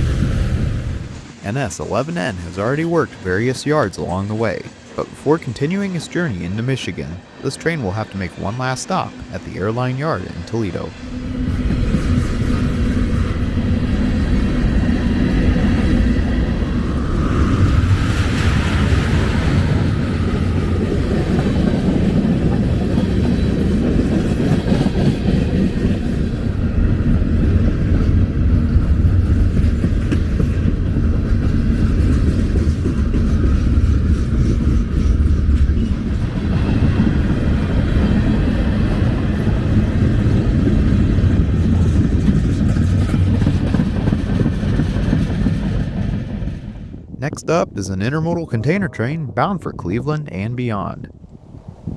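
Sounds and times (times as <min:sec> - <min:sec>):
train wheels rumbling on rails: 0:00.0 - 0:06.3, 0:08.4 - 0:47.2.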